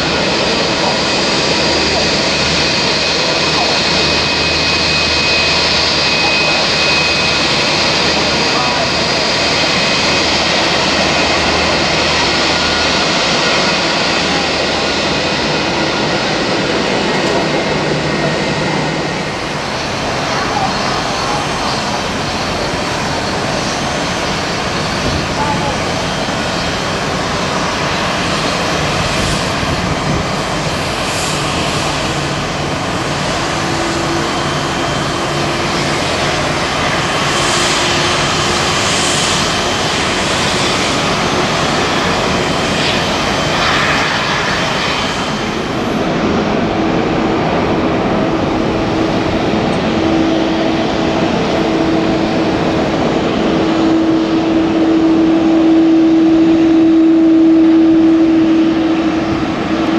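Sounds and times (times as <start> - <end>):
airliner jet engines taxiing: 0.0 - 59.9.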